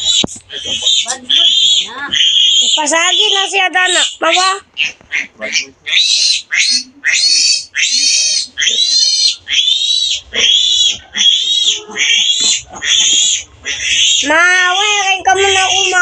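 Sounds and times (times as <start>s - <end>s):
piglet squealing: 0.0s - 16.0s.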